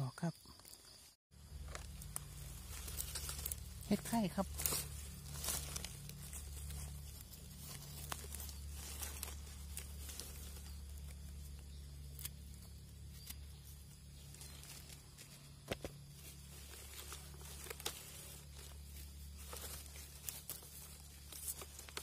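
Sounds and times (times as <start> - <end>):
dry leaves rustling: 1.3 - 22.0
low hum: 1.4 - 22.0
twigs snapping: 1.4 - 22.0.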